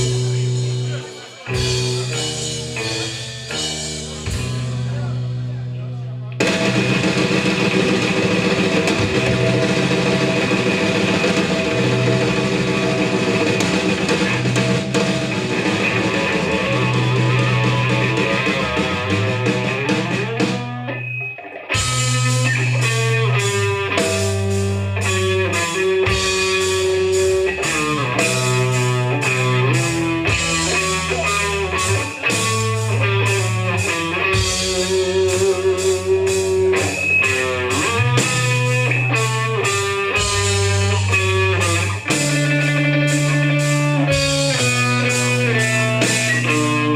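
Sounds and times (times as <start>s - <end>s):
punk rock band playing live: 0.0s - 46.9s.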